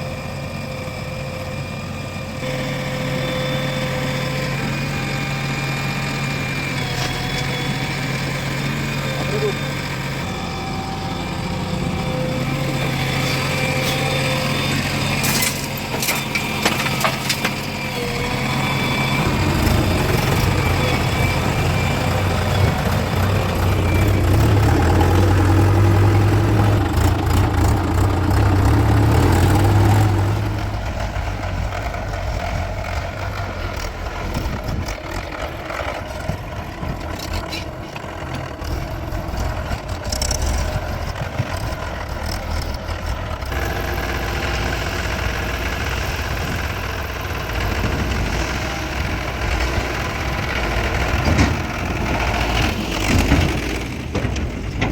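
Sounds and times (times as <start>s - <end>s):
heavy machinery diesel engine running: 0.0s - 54.9s.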